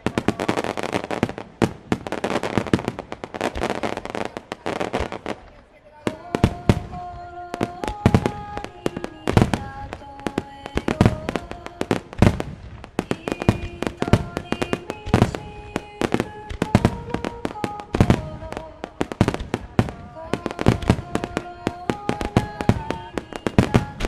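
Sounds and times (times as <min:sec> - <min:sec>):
fireworks bursts and booms: 0:00.0 - 0:24.0.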